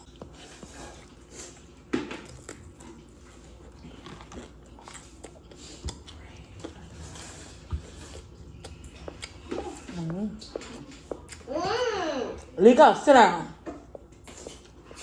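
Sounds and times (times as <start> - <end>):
chewing and biting: 0.0 - 11.5, 13.8 - 15.0.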